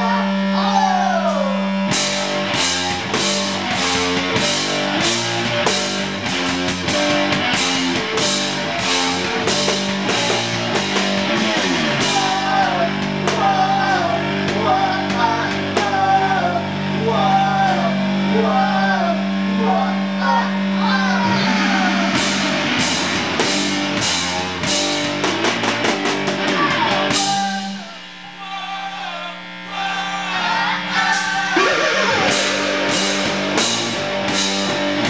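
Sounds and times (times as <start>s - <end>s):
distorted electric guitar: 0.0s - 28.4s, 29.3s - 35.0s
drum kit beat: 1.1s - 28.2s, 30.9s - 35.0s.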